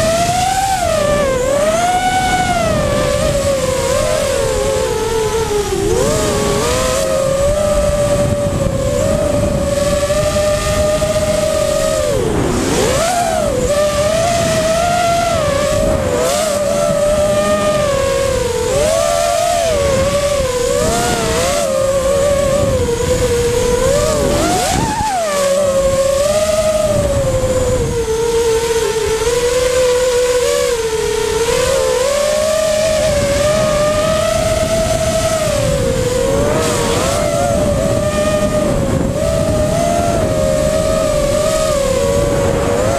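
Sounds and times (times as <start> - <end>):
drone motors whining: 0.0 - 42.9.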